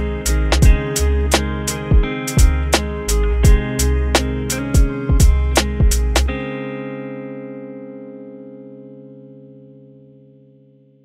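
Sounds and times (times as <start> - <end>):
held music chord: 0.0 - 9.3.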